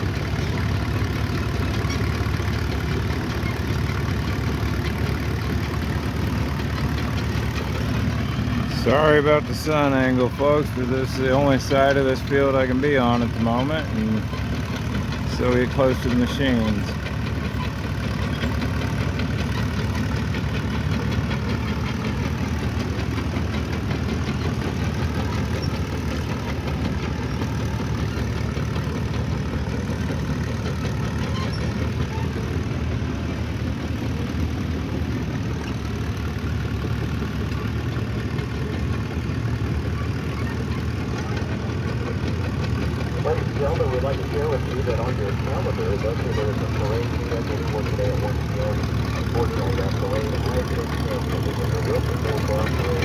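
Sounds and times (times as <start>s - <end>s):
heavy machine engine rumbling: 0.0s - 53.0s.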